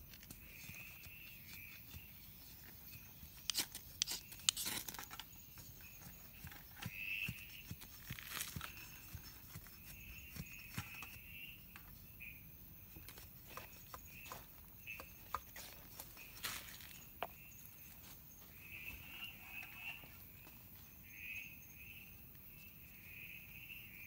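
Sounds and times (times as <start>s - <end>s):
jungle ambience: 0.0s - 24.0s.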